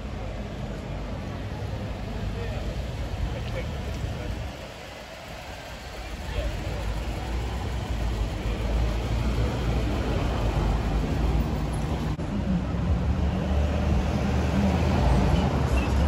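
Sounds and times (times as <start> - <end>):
deep steady engine hum: 0.0 - 16.0
street traffic engines: 0.0 - 16.0.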